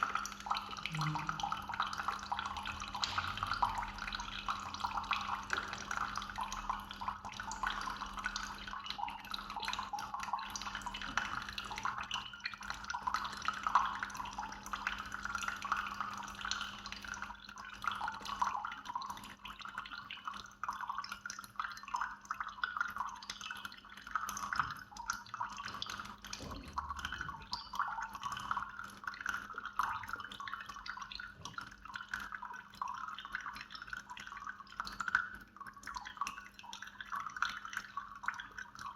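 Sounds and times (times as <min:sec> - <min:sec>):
coffee maker spitting water: 0:00.0 - 0:38.9.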